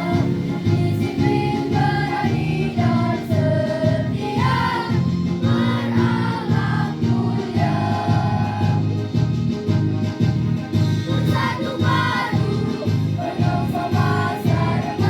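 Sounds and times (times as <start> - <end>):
choir singing a march: 0.0 - 9.2, 11.0 - 15.0.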